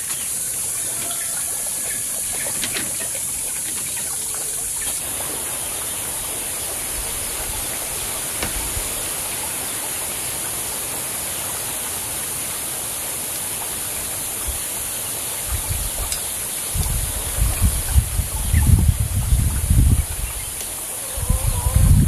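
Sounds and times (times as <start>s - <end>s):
high-pitched background hiss: 0.0s - 22.0s.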